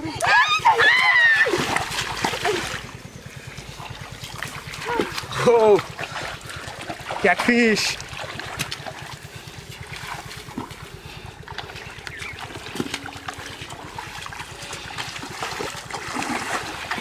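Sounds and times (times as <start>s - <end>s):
low throb: 0.0s - 17.0s
muddy water splashing: 0.0s - 17.0s.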